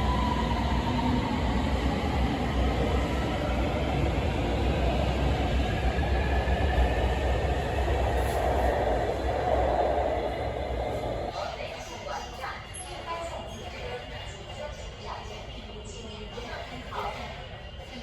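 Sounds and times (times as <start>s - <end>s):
subway train rumble: 0.0s - 18.0s.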